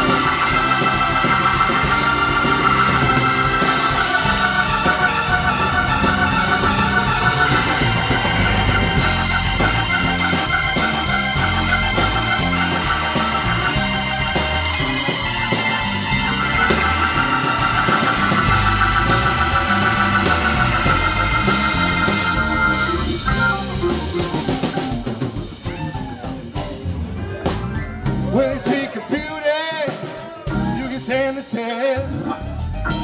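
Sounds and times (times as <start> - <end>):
electric bass: 0.0 - 28.7, 32.0 - 33.0
drum kit: 0.0 - 33.0
organ warbling chords: 0.0 - 33.0.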